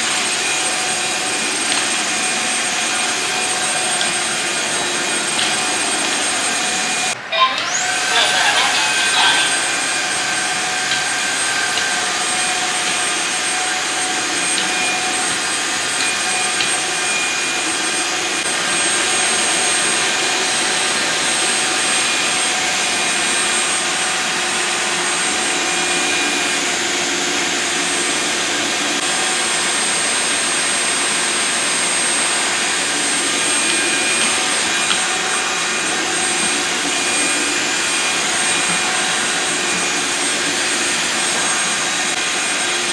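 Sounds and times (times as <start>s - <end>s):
floor washer suction and motor whine: 0.0s - 42.9s.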